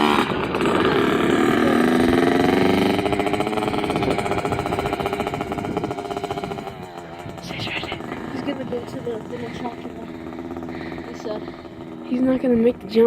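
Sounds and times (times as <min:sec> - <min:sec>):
dirt bike engine buzzing: 0:00.0 - 0:13.0.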